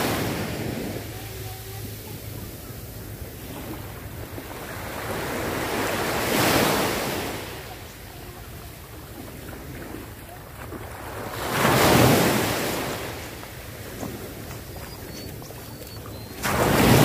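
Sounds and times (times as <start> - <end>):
wind buffeting microphone: 0.0 - 7.2, 7.9 - 17.0
small waves breaking on shore: 0.0 - 17.0.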